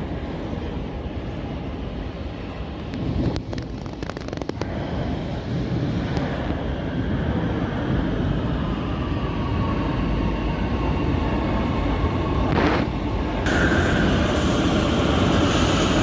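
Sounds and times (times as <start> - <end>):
train rumbling on rails: 0.0 - 16.0
train whine: 0.0 - 16.0.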